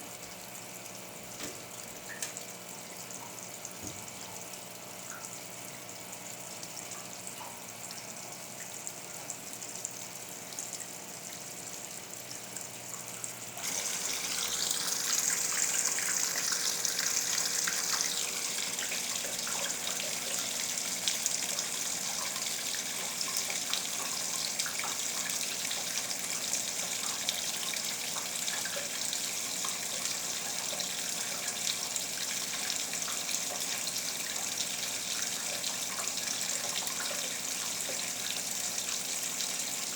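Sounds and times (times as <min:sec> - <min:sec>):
water filling washing machine: 0:00.0 - 0:39.9.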